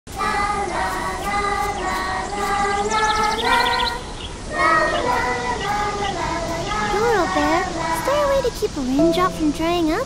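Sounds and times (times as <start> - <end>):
gentle music with singing: 0.1 - 10.0.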